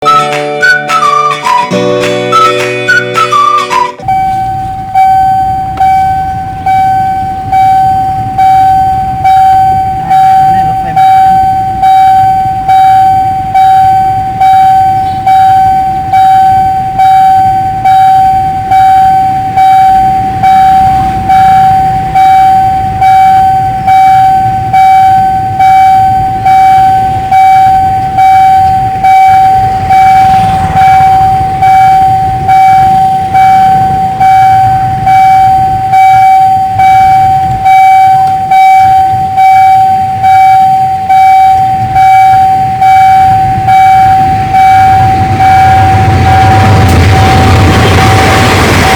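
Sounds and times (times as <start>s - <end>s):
level crossing bell ringing: 1.6s - 46.9s
low rumble: 4.0s - 48.9s.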